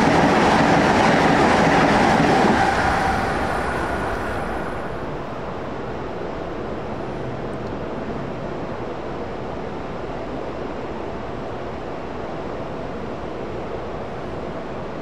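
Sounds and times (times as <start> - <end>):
distant trains rumbling: 0.0 - 15.0.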